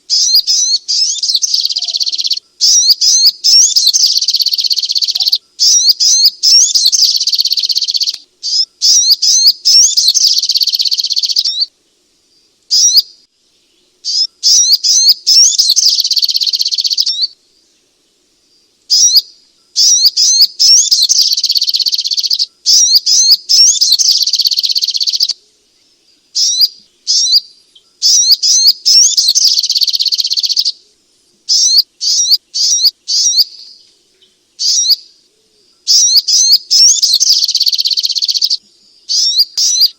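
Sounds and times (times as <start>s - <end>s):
bird singing high sharp chirps: 0.1s - 11.7s, 12.7s - 13.1s, 14.0s - 17.4s, 18.9s - 25.4s, 26.4s - 30.8s, 31.5s - 33.9s, 34.6s - 35.2s, 35.9s - 39.9s.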